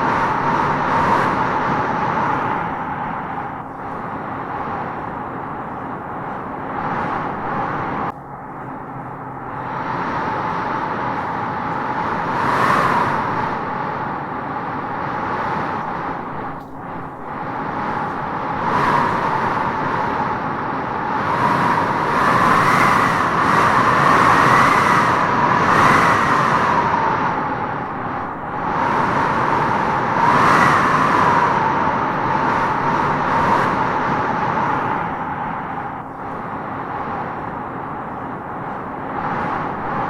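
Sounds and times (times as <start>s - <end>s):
wind howling through trees: 0.0s - 40.0s.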